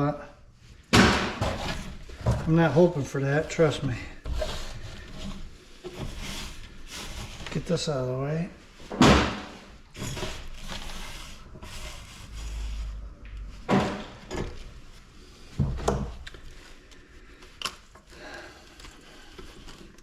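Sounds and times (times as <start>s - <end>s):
rubbing and scraping of parts: 0.7s - 20.0s.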